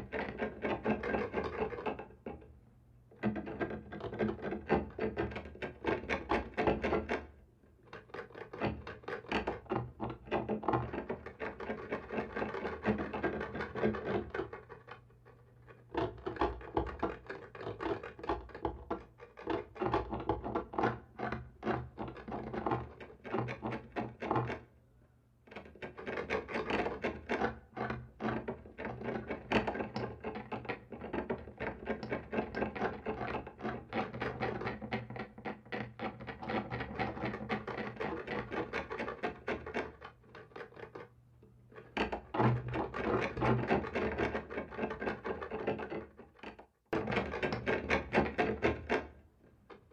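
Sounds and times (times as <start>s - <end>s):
scratching on a wall: 0.0s - 2.5s, 3.2s - 24.7s, 25.4s - 49.9s.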